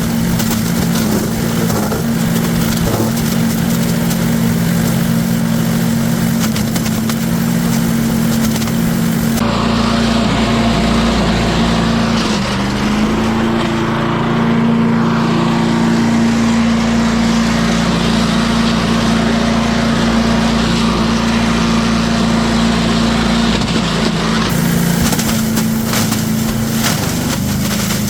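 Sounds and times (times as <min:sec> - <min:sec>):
small gasoline engine running: 0:00.0 - 0:28.0.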